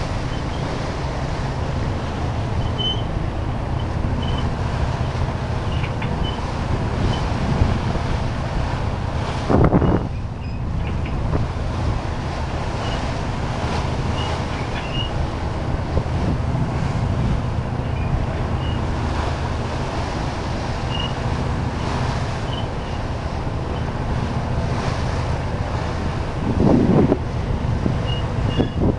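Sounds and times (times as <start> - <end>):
boat engine hum: 0.0 - 28.9
waves washing: 0.0 - 28.9
wind across microphone: 0.0 - 28.9.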